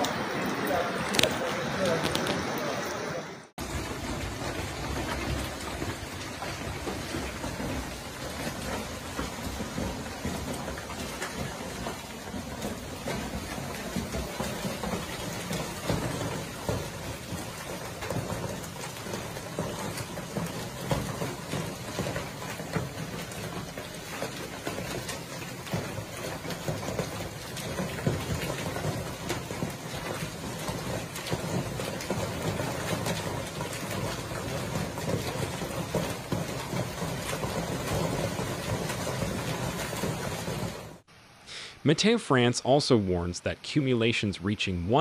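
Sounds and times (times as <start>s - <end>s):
hail and rain pelting patio: 0.0s - 41.7s.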